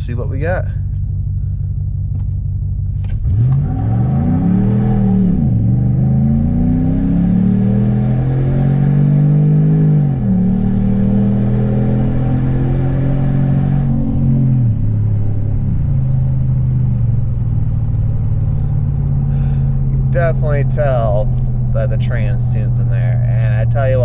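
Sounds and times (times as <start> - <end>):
engine full-throttle acceleration: 0.0 - 24.0.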